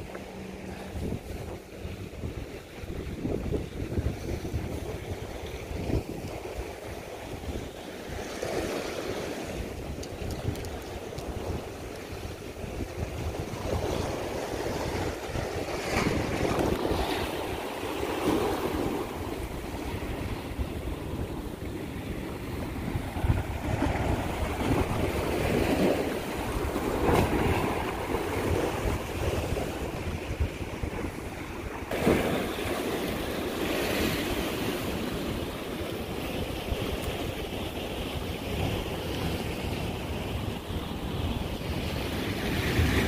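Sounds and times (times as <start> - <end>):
sea waves washing against rocks: 0.0 - 43.0
wind rumbling on microphone: 0.0 - 43.0.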